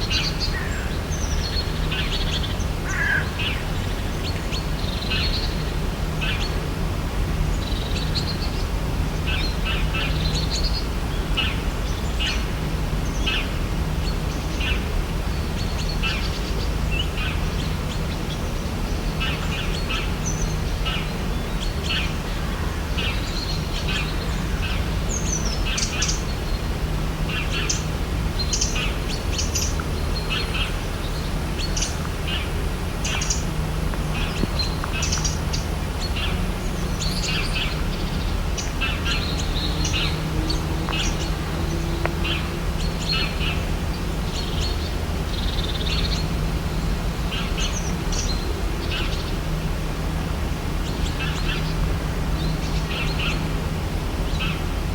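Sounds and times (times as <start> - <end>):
tropical birds chirping: 0.0 - 54.9.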